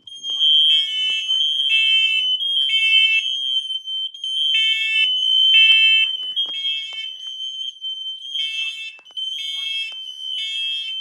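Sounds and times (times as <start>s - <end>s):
smoke alarm beeps: 0.0s - 11.0s
smoke alarm high-pitched tone: 0.0s - 11.0s.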